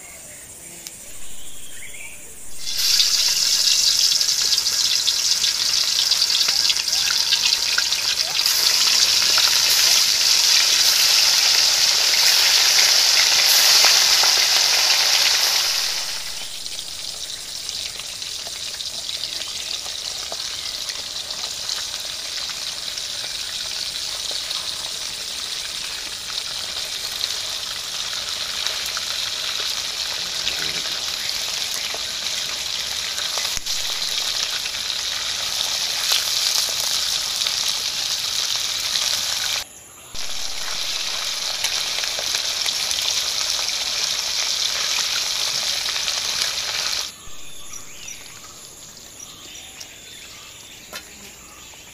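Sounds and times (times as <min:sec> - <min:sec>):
fish sizzling in hot oil: 0:01.0 - 0:49.6.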